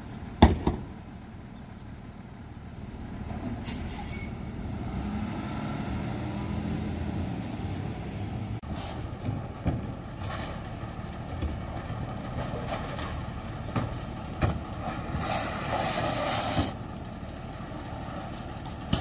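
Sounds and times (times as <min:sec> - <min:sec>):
diesel truck engine idling: 0:00.0 - 0:05.2, 0:06.2 - 0:19.0.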